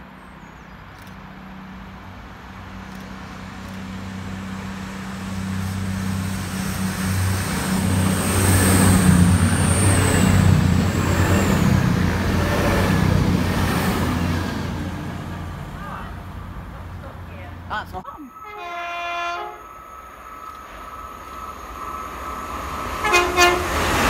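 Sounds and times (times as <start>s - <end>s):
train engine drone: 0.0s - 24.0s
train rail noise: 0.8s - 24.0s.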